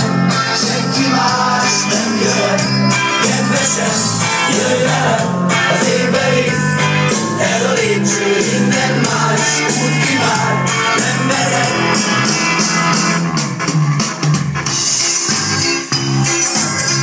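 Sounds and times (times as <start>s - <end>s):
dance music over sound system: 0.0s - 17.0s.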